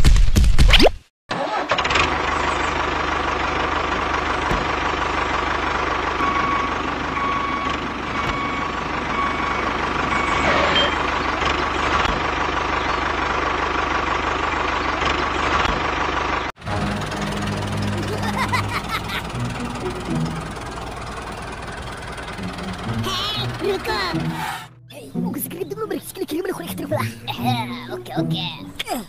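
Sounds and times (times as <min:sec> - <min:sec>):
toy tractor engine running: 0:01.3 - 0:24.6.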